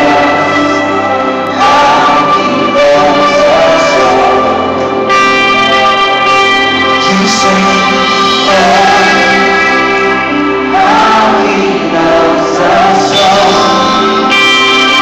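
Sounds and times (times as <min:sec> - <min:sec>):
many voices singing: 0:00.0 - 0:15.0
worship music chords: 0:00.0 - 0:15.0.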